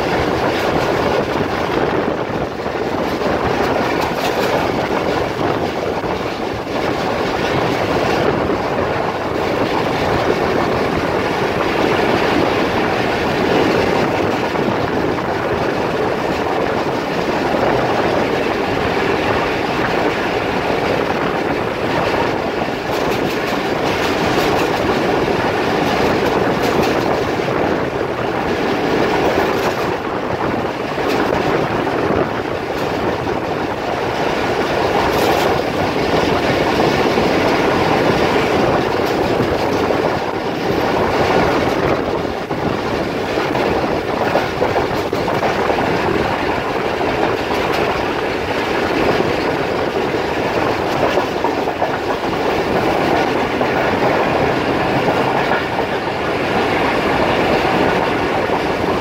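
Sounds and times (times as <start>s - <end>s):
clickety-clack over rail joints: 0.0s - 59.0s
train wheels rumbling on rails: 0.0s - 59.0s.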